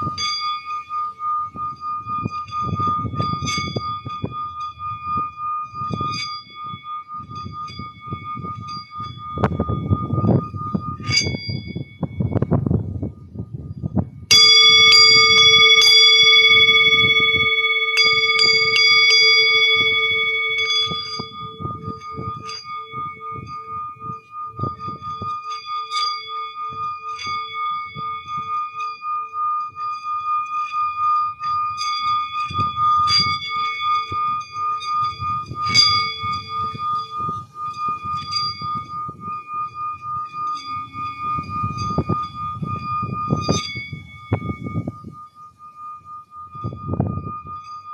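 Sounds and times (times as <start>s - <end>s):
metal bell ringing: 0.0s - 12.6s, 14.3s - 47.9s.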